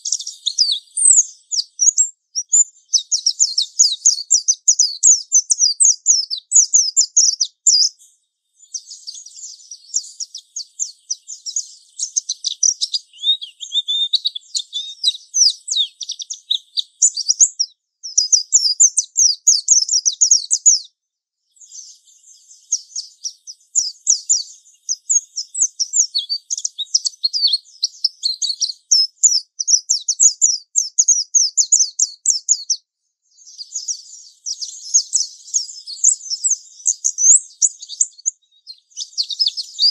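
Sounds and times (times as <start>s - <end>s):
bird high-pitched twittering song: 0.0s - 39.9s.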